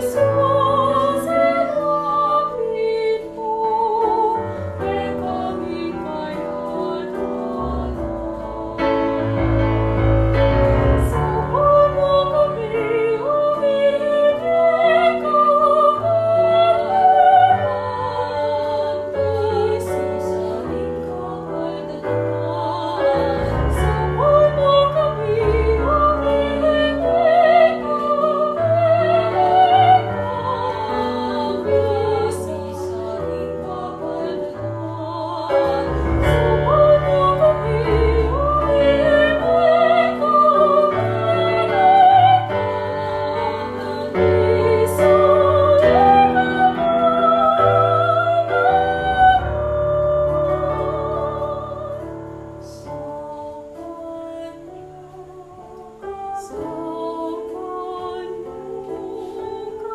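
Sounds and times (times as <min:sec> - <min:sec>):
person singing a hymn with vibrato: 0:00.0 - 0:59.9
piano accompaniment: 0:00.0 - 0:59.9.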